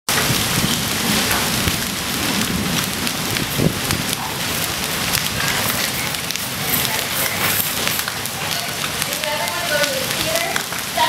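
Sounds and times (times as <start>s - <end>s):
hailstones ticking: 0.1s - 11.0s
heavy rain on pavement: 0.1s - 11.0s.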